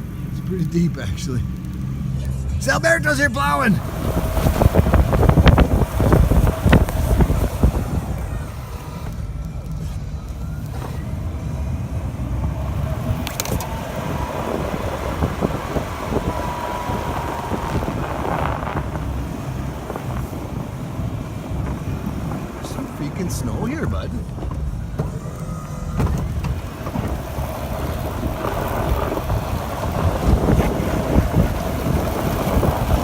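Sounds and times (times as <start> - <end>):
engine low rumble: 0.0 - 33.0
wind noise on microphone: 3.8 - 33.0.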